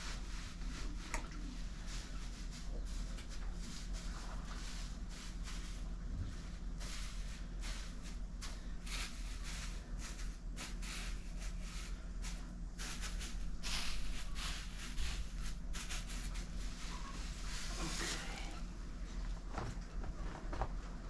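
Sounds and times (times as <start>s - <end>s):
shuffling and rustling: 0.0s - 21.0s
steady low hum: 0.0s - 21.0s.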